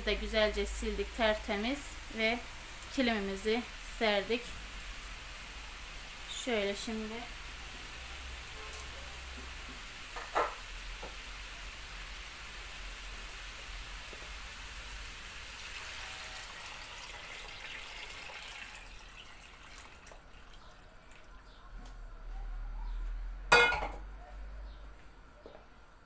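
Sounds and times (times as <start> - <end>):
water hissing in hot pot: 0.1 - 21.2.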